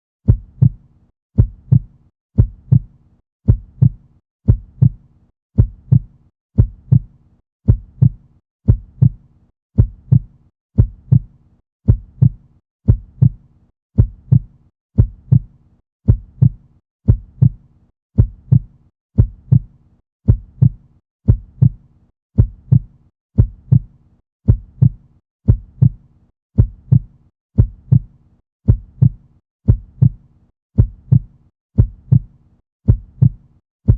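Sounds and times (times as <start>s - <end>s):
heartbeat: 0.2s - 13.4s, 14.0s - 17.6s, 18.2s - 21.8s, 22.4s - 26.0s, 26.6s - 30.2s, 30.8s - 33.9s.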